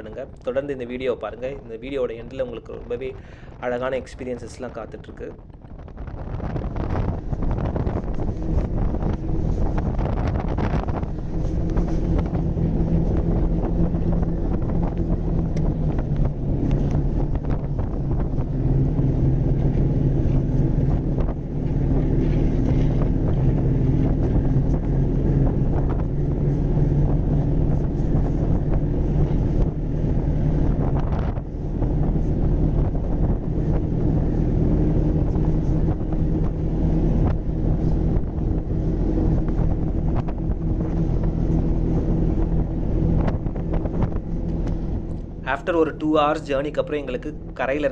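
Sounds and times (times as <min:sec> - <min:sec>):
wind buffeting microphone: 0:00.0 - 0:47.9
snowmobile engine running: 0:06.2 - 0:45.4.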